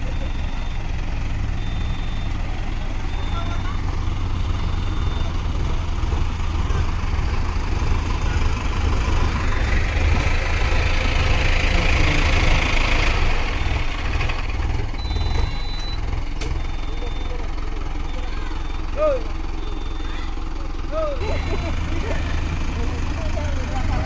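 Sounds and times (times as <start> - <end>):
tractor diesel engines under load: 0.0 - 24.0.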